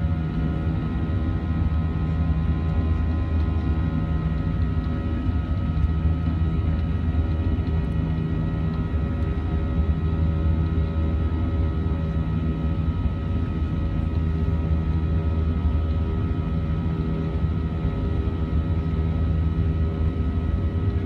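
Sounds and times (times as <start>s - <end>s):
airplane cabin engine rumble: 0.0s - 21.0s
constant engine whining tones: 0.0s - 21.0s.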